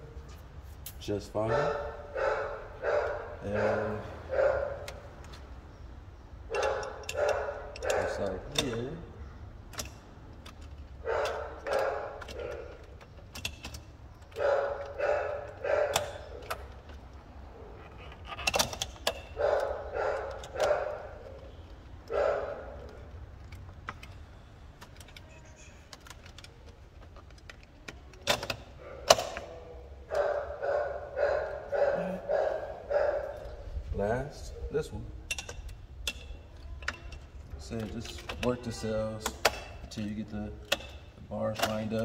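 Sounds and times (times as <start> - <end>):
metal busbars clinking: 0.0 - 33.6, 35.2 - 42.0.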